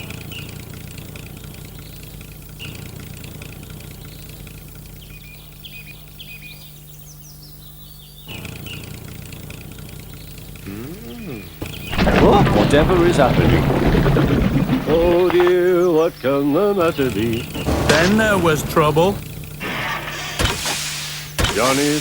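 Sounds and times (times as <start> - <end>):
birds chirping: 0.0 - 22.0
vehicle engine hum: 0.0 - 22.0.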